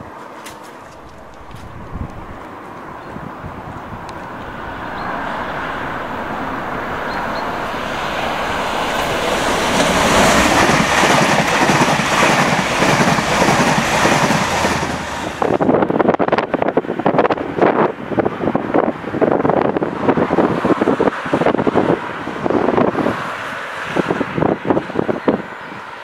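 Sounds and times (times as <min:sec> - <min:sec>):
passenger train passing: 0:00.0 - 0:26.0.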